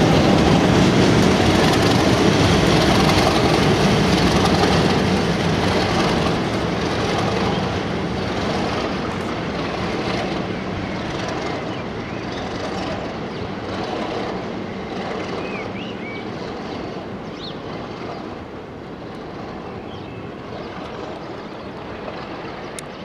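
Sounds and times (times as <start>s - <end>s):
diesel locomotives rumbling: 0.0s - 23.0s.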